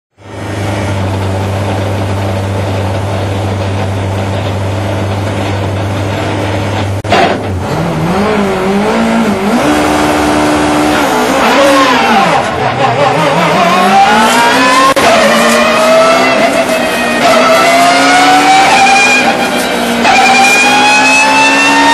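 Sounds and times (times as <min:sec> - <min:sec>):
racing engine idling and revving: 0:00.2 - 0:21.9.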